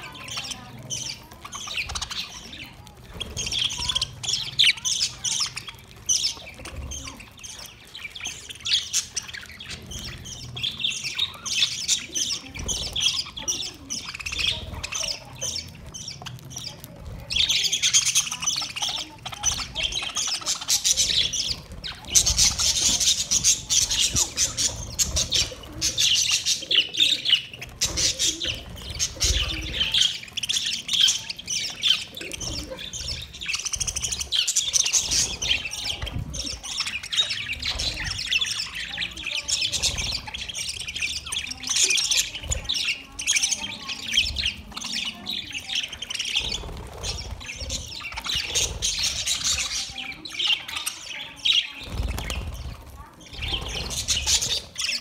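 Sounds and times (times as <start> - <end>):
budgerigars chattering and chirping: 0.0 - 55.0.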